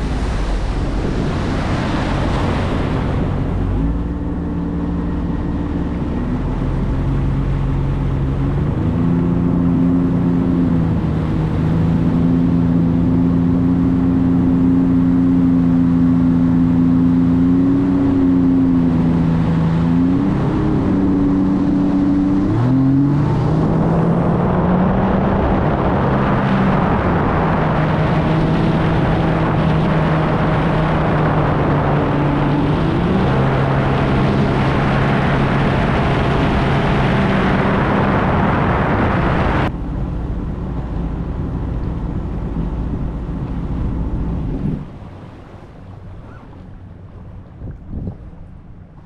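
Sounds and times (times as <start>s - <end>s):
watercraft engine at speed: 0.0s - 49.0s
wind on microphone: 0.0s - 49.0s.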